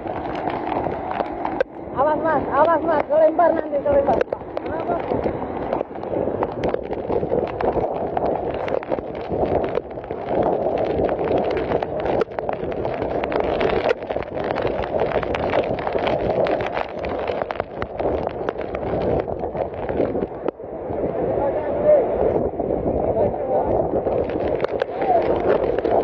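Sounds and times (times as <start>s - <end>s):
wind gusting against microphone: 0.0s - 26.0s.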